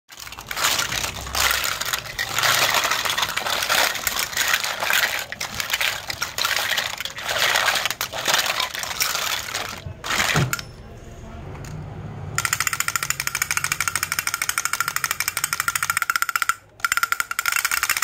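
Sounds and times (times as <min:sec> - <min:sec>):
plastic toys clattering: 0:00.1 - 0:10.8, 0:12.4 - 0:18.0.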